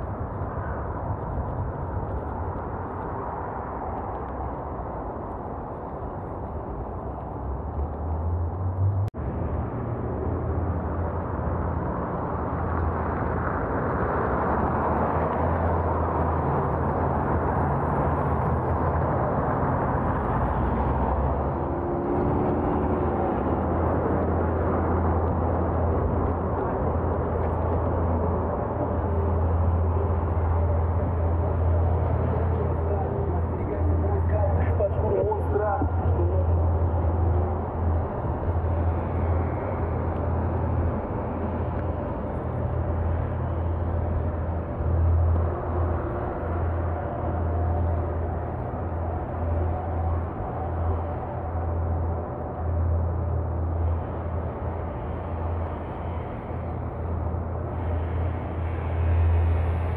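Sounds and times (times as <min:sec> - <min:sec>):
traffic: 0:00.0 - 0:59.9.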